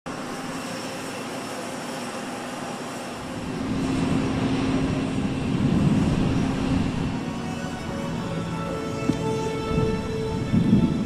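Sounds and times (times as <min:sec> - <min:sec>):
small propeller airplane droning: 0:00.1 - 0:11.0.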